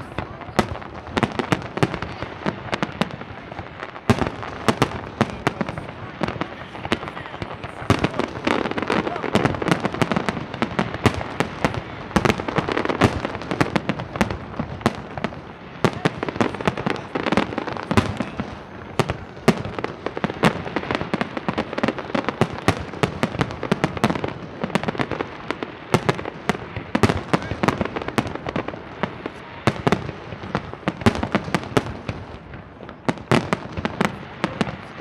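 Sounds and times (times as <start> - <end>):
fireworks bursts and crackling: 0.0 - 35.0.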